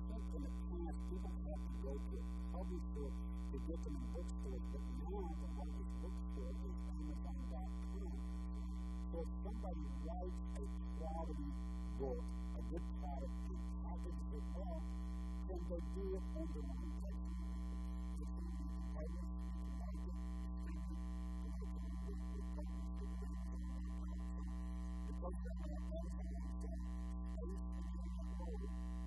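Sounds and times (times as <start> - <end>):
faint man's voice: 0.0 - 8.3, 9.1 - 29.0
steady electrical hum: 0.0 - 29.0.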